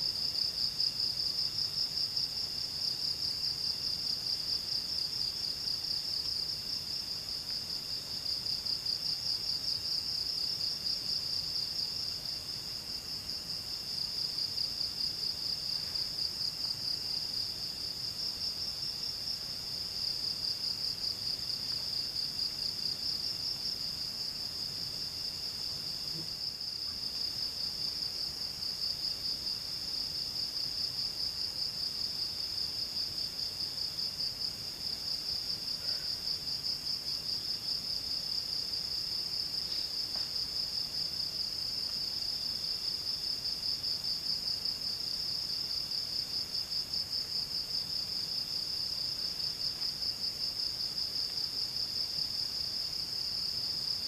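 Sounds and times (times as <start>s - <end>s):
high pulsing insect chorus: 0.0s - 54.0s.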